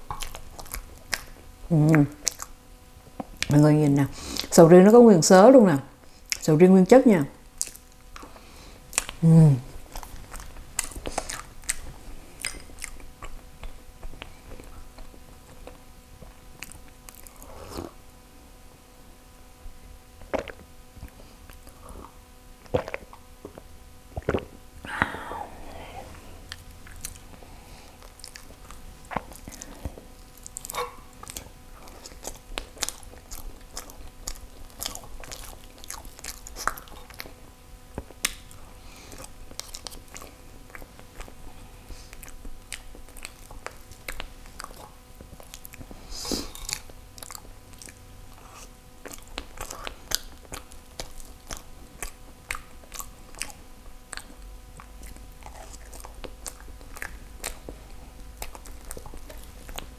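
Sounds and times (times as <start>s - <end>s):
person chewing: 0.0s - 3.5s, 7.6s - 18.1s, 20.2s - 59.9s
mouth clicks and smacks: 0.0s - 3.6s, 6.3s - 6.5s, 7.6s - 18.0s, 20.2s - 25.2s, 26.1s - 27.4s, 28.0s - 41.4s, 42.1s - 59.9s.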